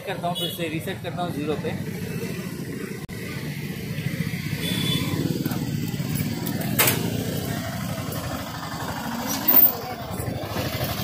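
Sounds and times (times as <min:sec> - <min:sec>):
motorcycle engine idling: 0:00.1 - 0:11.0.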